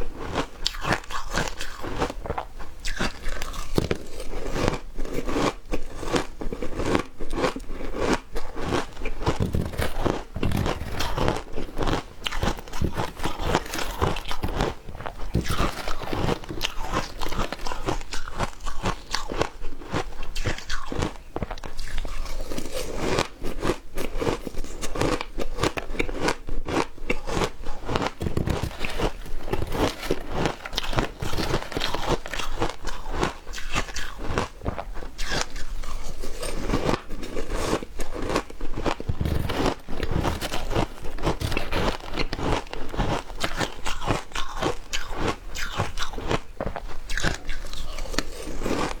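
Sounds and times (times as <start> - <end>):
person chewing crunchy ice: 0.0 - 49.0.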